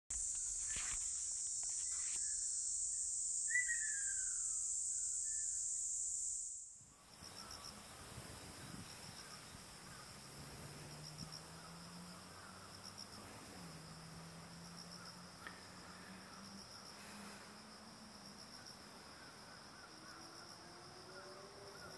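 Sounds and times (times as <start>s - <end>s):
high insect chorus: 0.1s - 21.9s
pulsing insect trills: 0.1s - 21.9s.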